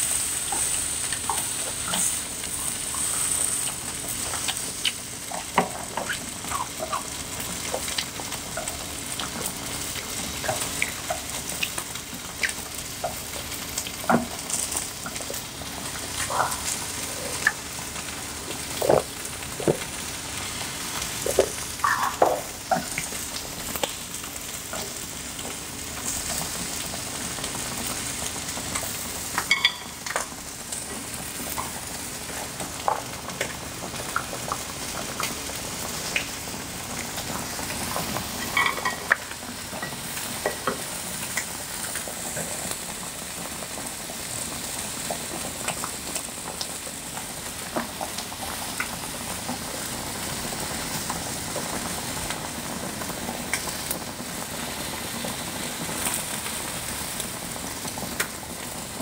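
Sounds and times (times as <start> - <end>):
beef sizzling on a grill: 0.0 - 59.0.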